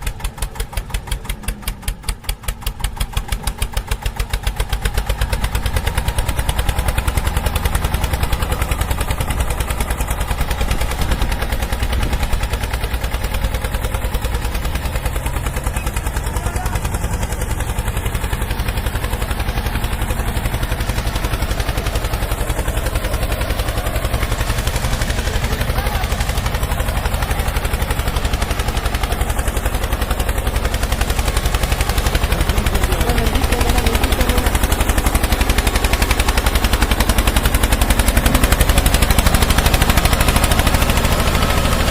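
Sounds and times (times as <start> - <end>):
tractor engine chugging: 0.0 - 41.9.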